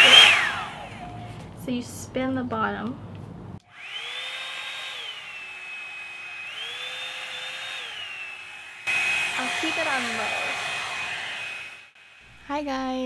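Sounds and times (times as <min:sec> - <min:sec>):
hot-air brush fan motor whining: 0:00.0 - 0:01.9, 0:03.6 - 0:13.0.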